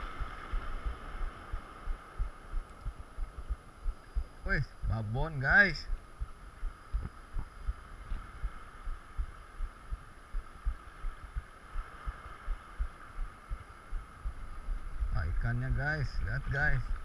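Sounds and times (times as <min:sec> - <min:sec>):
muffled low thumps: 0:00.0 - 0:11.9, 0:12.5 - 0:15.7.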